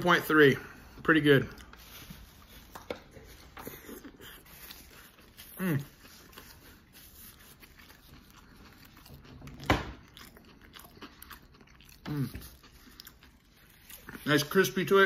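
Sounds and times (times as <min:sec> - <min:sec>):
person chewing crunchy food: 0:00.7 - 0:15.0.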